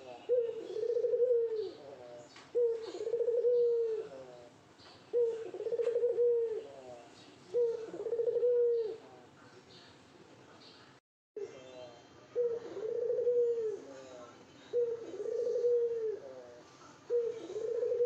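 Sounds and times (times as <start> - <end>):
dove cooing: 0.0 - 9.2, 12.3 - 18.0.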